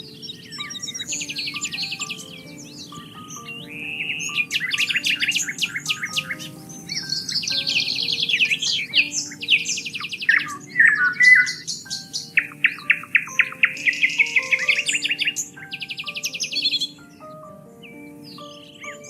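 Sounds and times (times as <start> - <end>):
soft background music: 0.0 - 19.0
songbirds trilling and chirping: 0.0 - 19.0.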